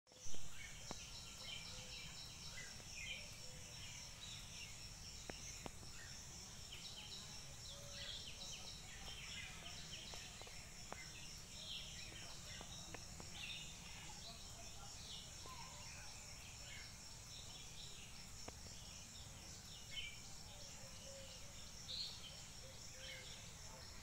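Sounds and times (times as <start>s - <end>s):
birds chirping: 0.1s - 24.0s
insect drone: 0.1s - 24.0s.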